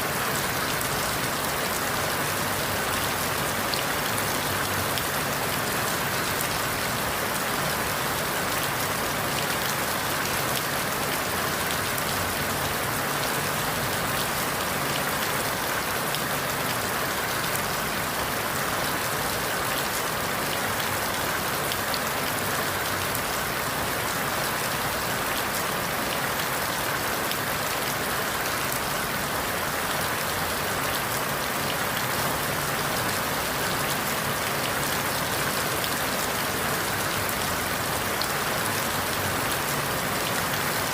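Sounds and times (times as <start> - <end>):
rain falling through leaves: 0.0 - 40.9.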